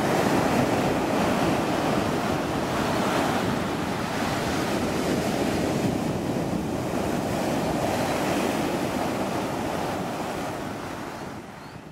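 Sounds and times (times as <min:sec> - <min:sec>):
surf washing: 0:00.0 - 0:11.9
wind buffeting microphone: 0:00.0 - 0:11.9.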